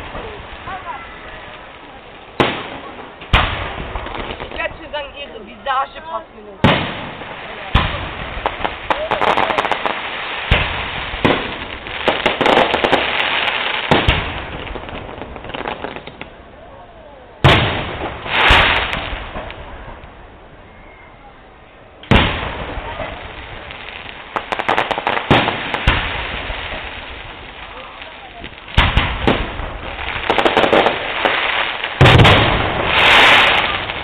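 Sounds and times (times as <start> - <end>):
firework bangs: 0.0 - 16.4, 17.4 - 21.0, 22.0 - 34.0
firework crackling: 0.0 - 16.7, 17.4 - 20.8, 22.0 - 34.0.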